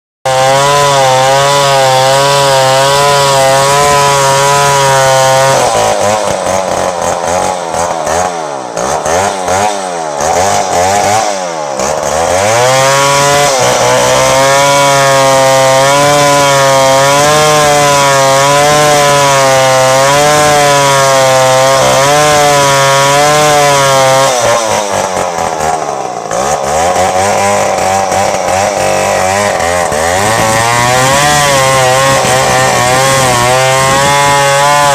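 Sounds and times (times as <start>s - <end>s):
chainsaw cutting wood: 0.3s - 34.9s.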